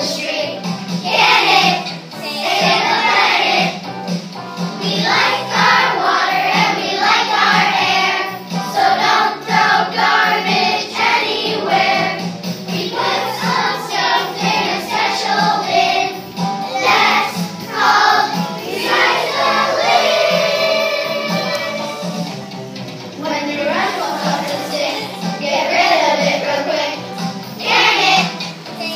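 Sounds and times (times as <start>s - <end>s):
children singing: 0.0s - 3.9s, 4.8s - 22.3s, 23.2s - 28.9s
backing music with bass: 0.0s - 28.9s.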